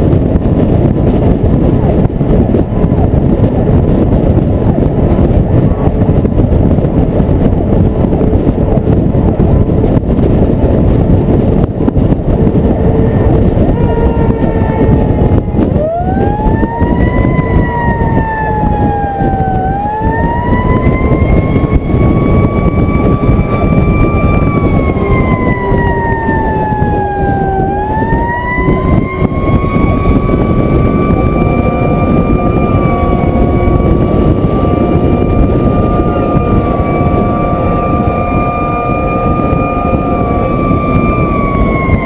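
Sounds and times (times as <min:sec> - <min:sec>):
road and wind noise: 0:00.0 - 0:42.0
truck engine: 0:00.0 - 0:42.0
fire truck siren: 0:06.9 - 0:42.0.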